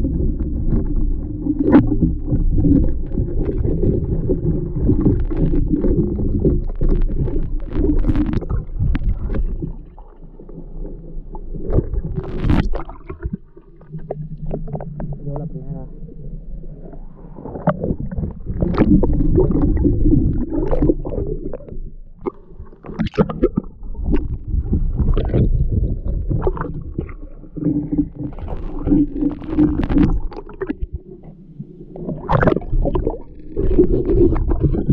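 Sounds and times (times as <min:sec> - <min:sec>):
splashes and bubbling: 0:00.0 - 0:15.6, 0:16.7 - 0:34.9
water sloshing and gurgling: 0:00.0 - 0:34.9.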